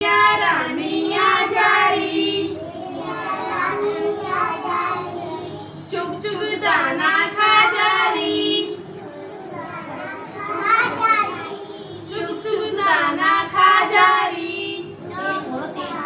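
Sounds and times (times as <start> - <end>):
children singing: 0.0 - 16.0.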